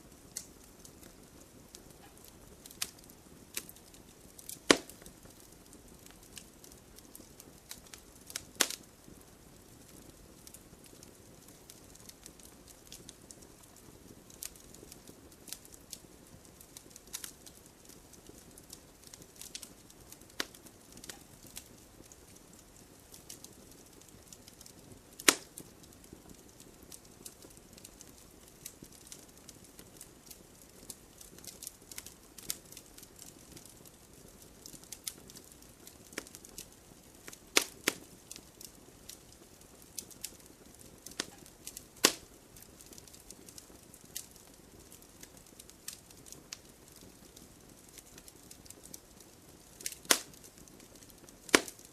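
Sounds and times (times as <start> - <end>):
campfire crackling: 0.0 - 51.9
fire popping: 0.0 - 51.9.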